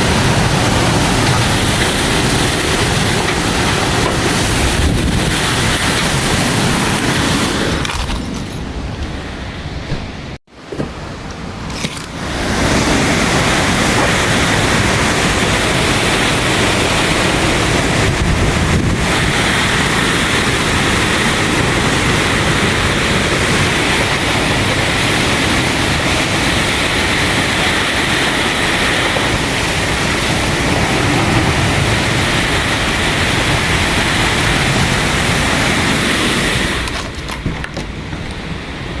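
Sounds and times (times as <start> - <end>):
wind blowing on microphone: 0.0 - 10.4, 11.6 - 39.0.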